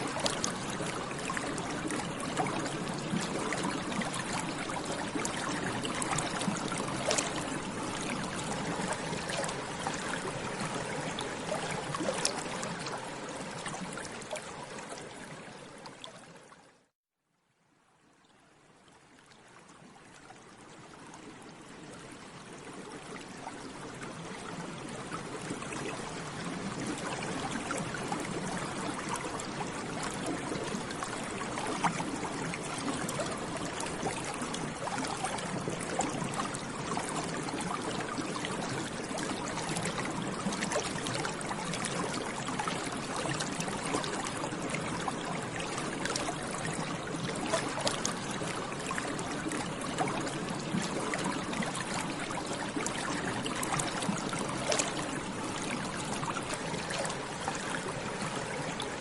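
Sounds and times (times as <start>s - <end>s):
water bubbling: 0.0s - 16.2s, 22.6s - 59.0s.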